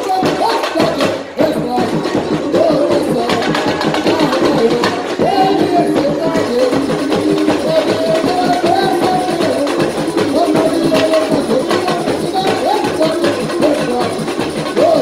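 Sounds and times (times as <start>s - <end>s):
person singing: 0.0s - 15.0s
samba drums and hand percussion: 0.0s - 15.0s.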